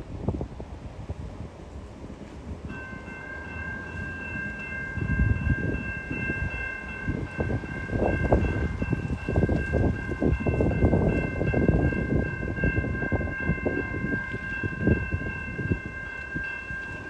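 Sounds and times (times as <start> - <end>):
low rumble of train: 0.0 - 17.0.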